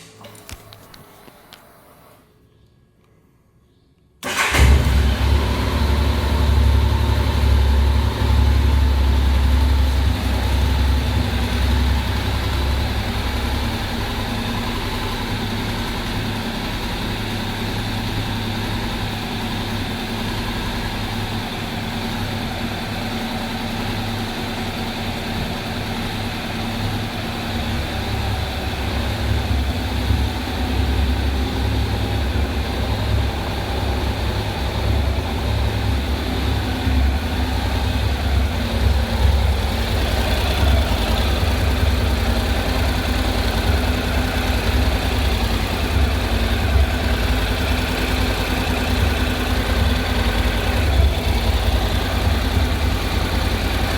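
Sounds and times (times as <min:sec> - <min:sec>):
motorcycle engine idling: 0:04.3 - 0:53.9.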